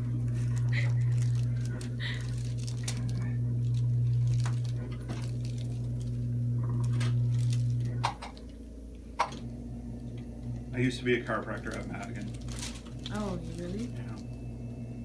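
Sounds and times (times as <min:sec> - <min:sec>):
electric massager humming: 0:00.0 - 0:15.0.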